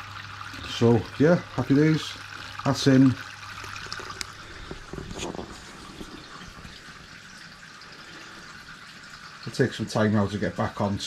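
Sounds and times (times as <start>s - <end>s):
liquid trickling onto grain: 0.0s - 11.0s.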